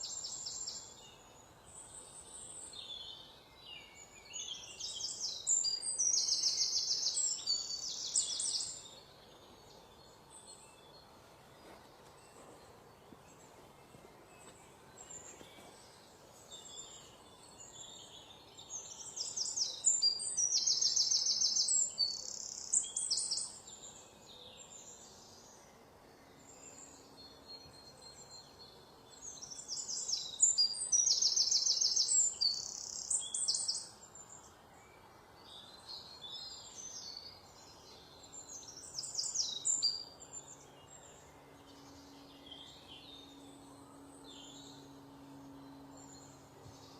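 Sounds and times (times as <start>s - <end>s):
faint background hiss: 0.0s - 46.9s
songbirds trilling: 0.0s - 46.9s.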